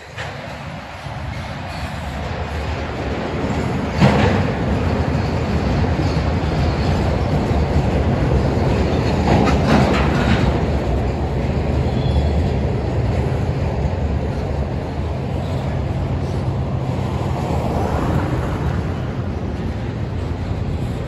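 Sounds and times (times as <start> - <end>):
railcar clacks: 0.0 - 21.0
train wheels rumbling on rail: 0.0 - 21.0.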